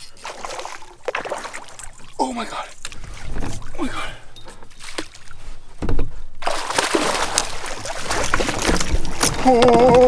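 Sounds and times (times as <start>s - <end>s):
water splashing beside a canoe: 0.0s - 10.0s.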